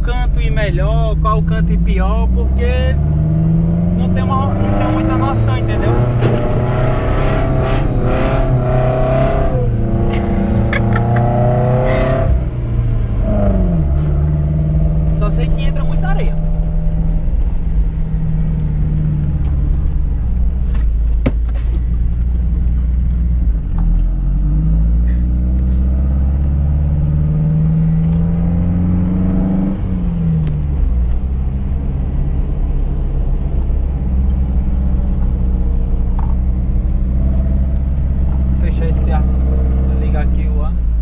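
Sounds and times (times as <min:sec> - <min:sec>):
engine rumbling and revving: 0:00.0 - 0:41.0.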